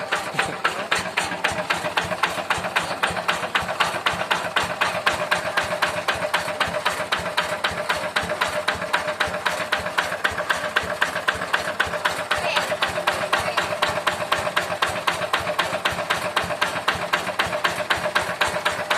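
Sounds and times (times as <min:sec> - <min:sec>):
engine knocking over hum: 0:00.0 - 0:18.9.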